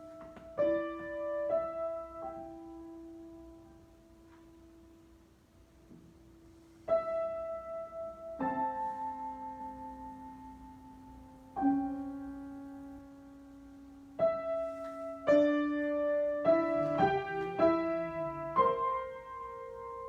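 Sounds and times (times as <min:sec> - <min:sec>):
slow improvised piano: 0:00.0 - 0:20.0.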